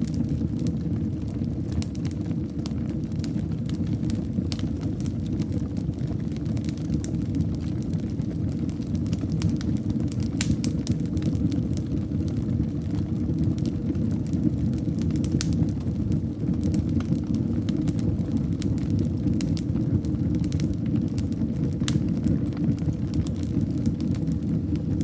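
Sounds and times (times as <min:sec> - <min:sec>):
fire crackles and pops: 0:00.0 - 0:25.0
fireplace fire rumbling: 0:00.0 - 0:25.0.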